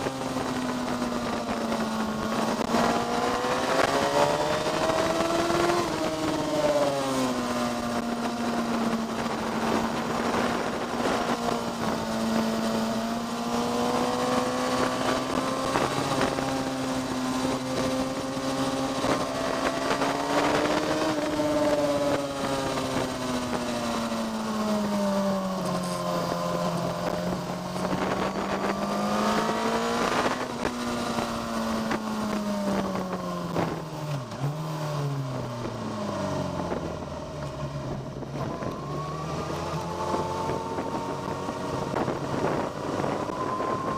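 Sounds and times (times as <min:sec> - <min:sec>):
vehicle engine on track: 0:00.0 - 0:43.9.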